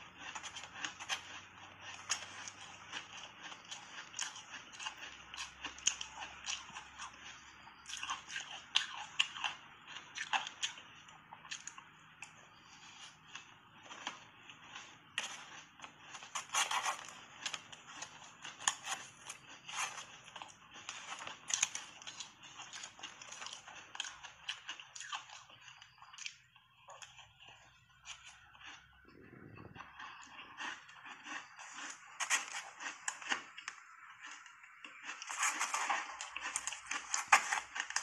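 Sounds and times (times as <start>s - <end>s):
chewing crunchy ice: 0.0s - 38.0s.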